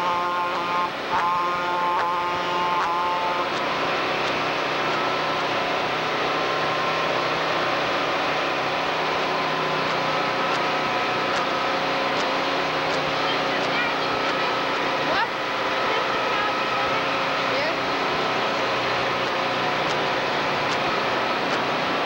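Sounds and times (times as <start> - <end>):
chord of steady tones: 0.0 - 22.0
truck engines running: 0.0 - 22.0.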